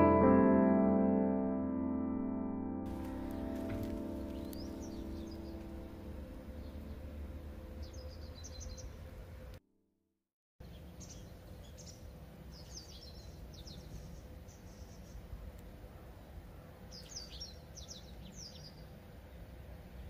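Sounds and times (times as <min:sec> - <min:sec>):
low outdoor background: 0:01.2 - 0:10.0, 0:10.6 - 0:20.0
small birds chirping: 0:02.9 - 0:09.6, 0:10.6 - 0:20.0.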